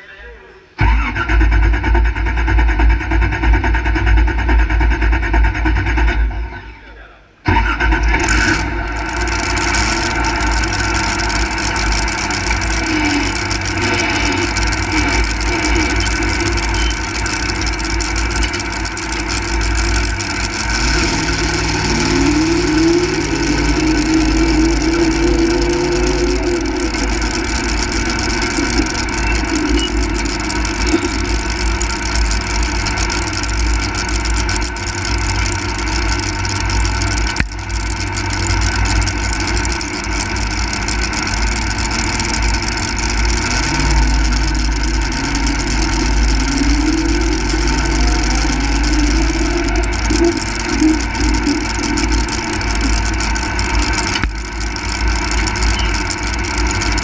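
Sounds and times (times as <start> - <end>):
pulling tractor engine running: 0.6 - 57.0.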